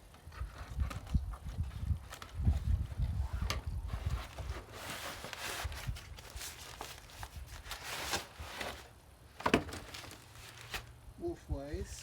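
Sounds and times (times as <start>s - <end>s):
cardboard box rustling and scraping: 0.4s - 10.9s.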